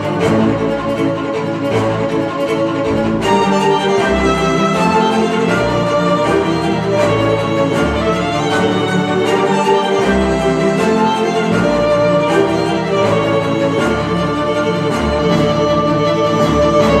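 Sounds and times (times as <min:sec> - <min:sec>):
cinematic string music: 0:00.0 - 0:17.0.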